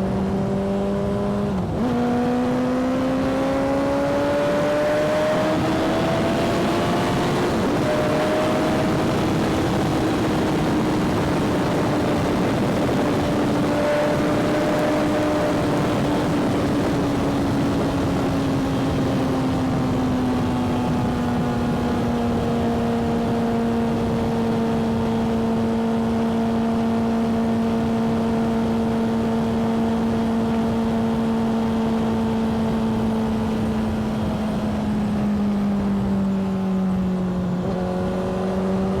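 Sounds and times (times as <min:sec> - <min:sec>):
motorcycle engine cruising: 0:00.0 - 0:39.0
wind noise: 0:00.0 - 0:39.0.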